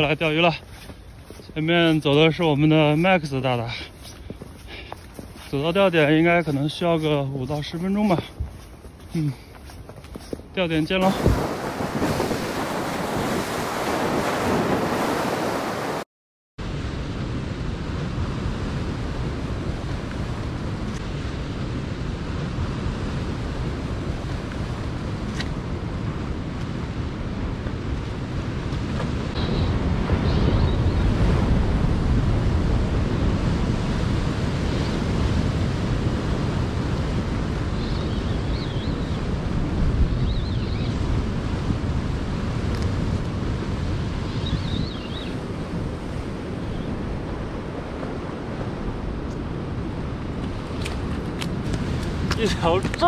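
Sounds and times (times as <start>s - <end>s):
sea surf: 0.0s - 8.3s, 10.6s - 16.0s, 16.6s - 53.0s
wind buffeting microphone: 0.0s - 15.8s, 16.8s - 53.0s.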